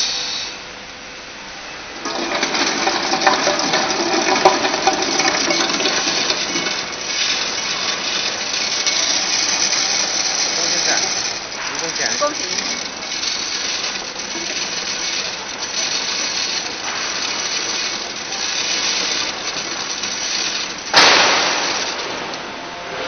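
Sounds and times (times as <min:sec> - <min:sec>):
machine clatter and hiss: 0:00.0 - 0:00.8, 0:01.7 - 0:23.0.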